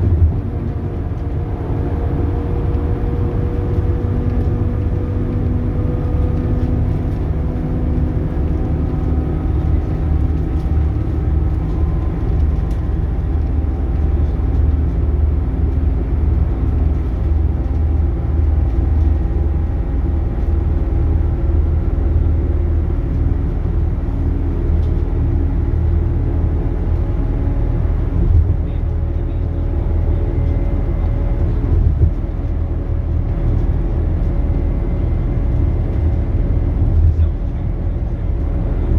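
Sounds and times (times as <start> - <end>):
bus engine rumbling with whine: 0.0 - 38.9.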